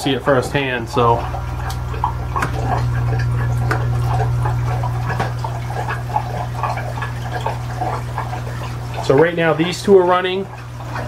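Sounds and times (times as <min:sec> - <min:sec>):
low electrical pump hum: 0:00.0 - 0:11.0
small water drips: 0:00.0 - 0:11.0
water trickling and splashing: 0:00.0 - 0:11.0.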